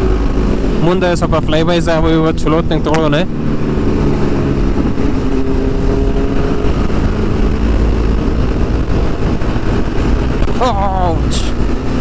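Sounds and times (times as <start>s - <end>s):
motorcycle engine running: 0.0s - 12.0s
road rumble: 0.0s - 12.0s
wind rushing over microphone: 0.0s - 12.0s.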